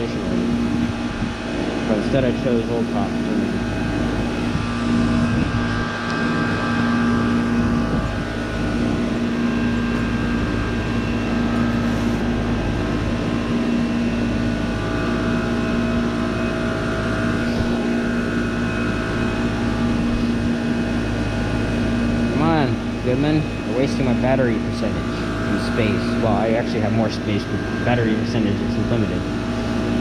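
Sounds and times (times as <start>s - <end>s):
heat pump compressor hum: 0.0s - 30.0s
steady tones: 0.0s - 30.0s.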